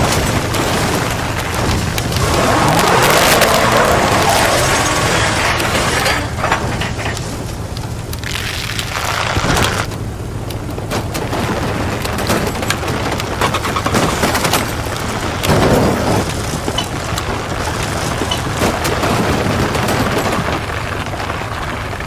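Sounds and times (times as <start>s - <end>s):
crackling and clicking: 0.0s - 22.0s
low rumble: 0.0s - 22.0s.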